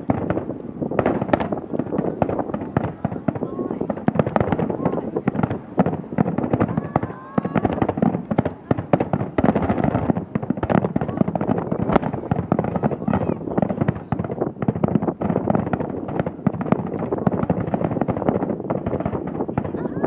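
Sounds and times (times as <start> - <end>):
fireworks crackling pops: 0.0 - 20.0
loud firework bang: 0.0 - 20.0.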